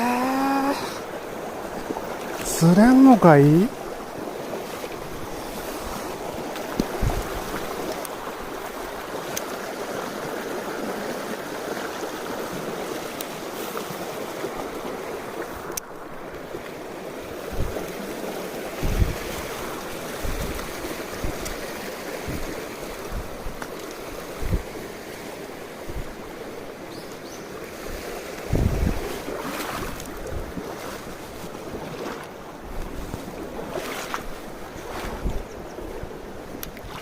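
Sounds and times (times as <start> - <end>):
stream rushing over rocks: 0.0 - 35.3.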